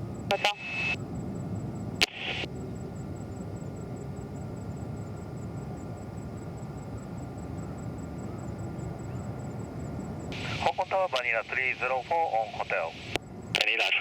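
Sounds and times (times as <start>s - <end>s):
distant jet aircraft rumble: 0.0s - 14.0s.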